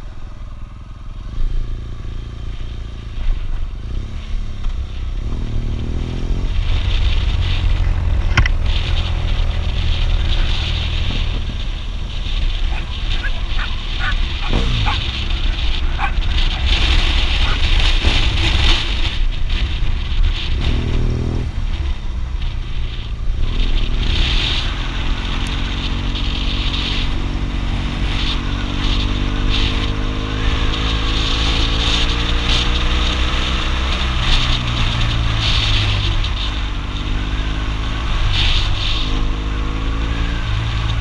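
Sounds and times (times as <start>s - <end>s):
motorcycle engine running: 0.0s - 41.0s
wind noise on microphone: 1.4s - 41.0s.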